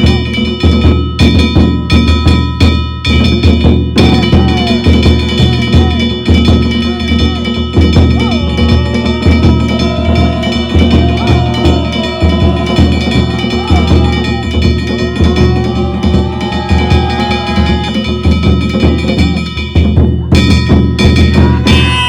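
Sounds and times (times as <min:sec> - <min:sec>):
hand gongs ringing: 0:00.0 - 0:22.0
taiko drum beating: 0:00.0 - 0:22.0.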